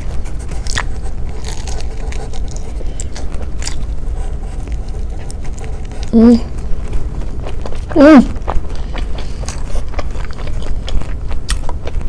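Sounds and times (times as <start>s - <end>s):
chewing and biting toast: 0.0s - 12.0s
low steady hum: 0.0s - 12.0s.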